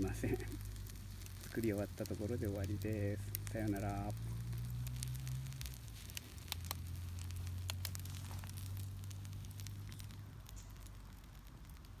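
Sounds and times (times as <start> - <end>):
wood campfire crackling: 0.0 - 12.0.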